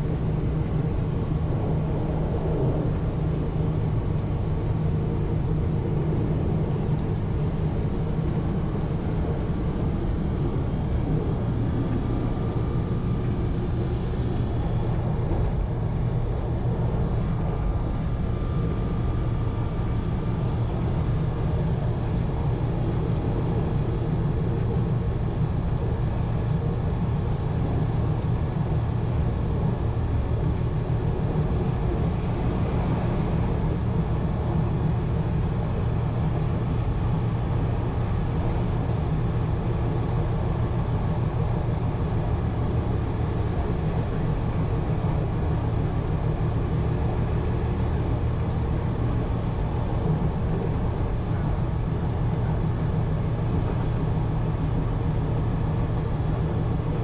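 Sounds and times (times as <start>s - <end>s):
railcar engine droning: 0.0s - 57.0s.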